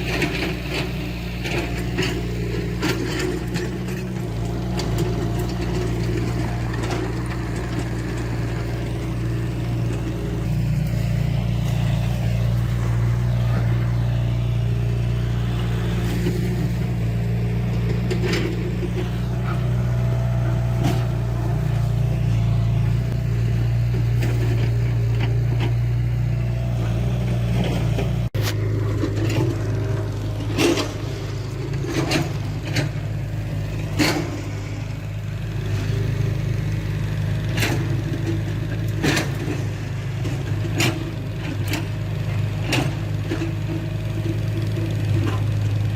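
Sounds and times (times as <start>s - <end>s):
heavy machinery diesel engine running: 0.0s - 45.9s.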